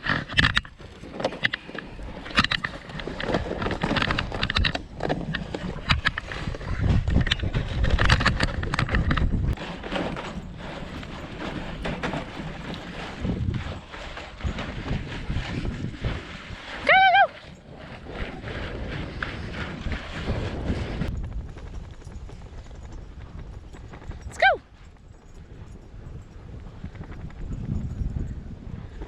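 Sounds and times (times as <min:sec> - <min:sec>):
clicks and knocks of sled: 0:00.0 - 0:29.0
sled runners crunching on snow: 0:00.0 - 0:29.0.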